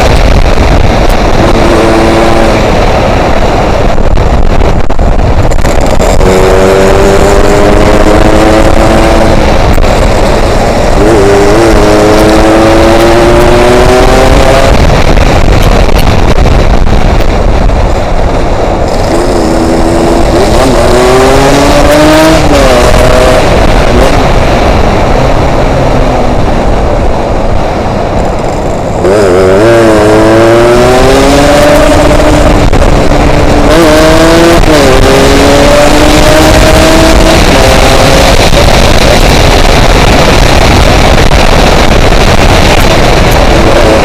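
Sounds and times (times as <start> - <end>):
motorcycle engine accelerating: 0.0 - 44.0
wind rushing over microphone: 0.0 - 44.0.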